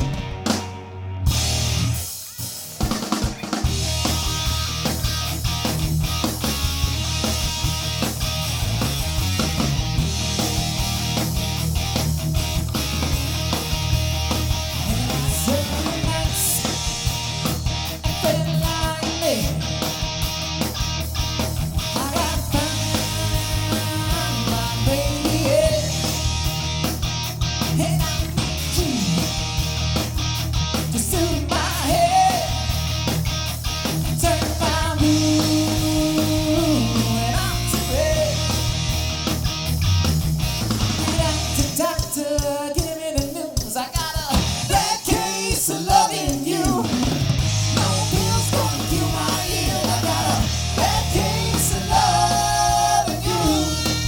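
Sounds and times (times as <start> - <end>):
electric guitar lead lines: 0.0 - 41.8, 46.6 - 54.0
live rock band: 0.0 - 54.0.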